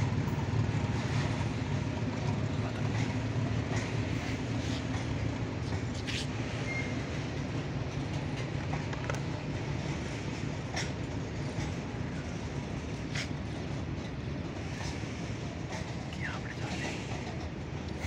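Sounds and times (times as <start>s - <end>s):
freight wagons rumbling: 0.0s - 18.0s
wheels clicking over rail joints: 0.2s - 16.1s.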